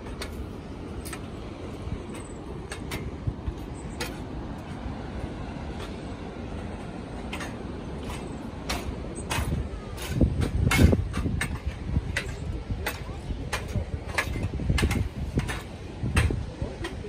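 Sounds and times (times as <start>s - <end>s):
footsteps on metal stairs: 0.0s - 17.0s
steady low rumble: 0.0s - 17.0s.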